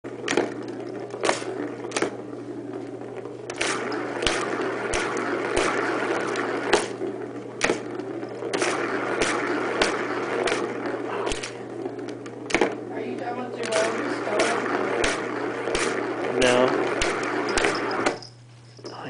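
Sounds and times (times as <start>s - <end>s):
plastic ball rolling rattle: 0.0s - 19.0s.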